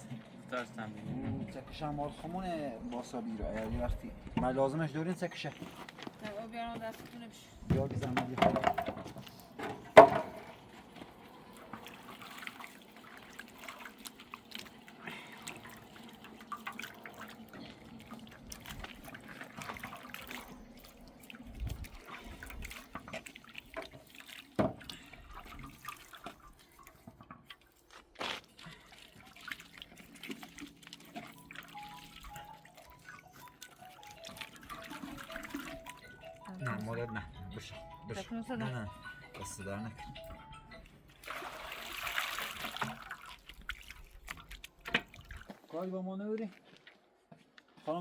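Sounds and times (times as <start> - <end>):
water dripping and trickling: 1.5 - 37.2, 39.4 - 45.8.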